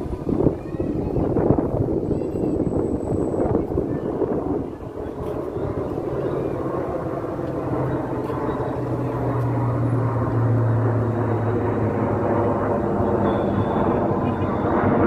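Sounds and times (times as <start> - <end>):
plane flying over: 0.0 - 15.0.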